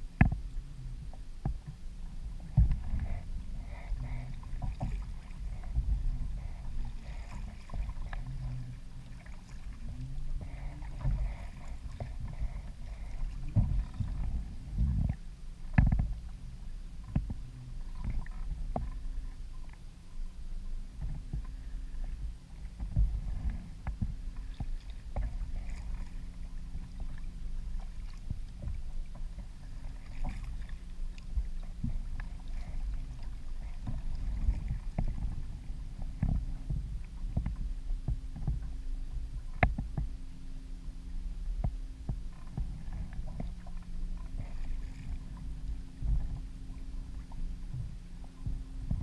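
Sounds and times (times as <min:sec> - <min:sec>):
faint low hum: 0:00.0 - 0:49.0
low rumble of water: 0:00.0 - 0:49.0.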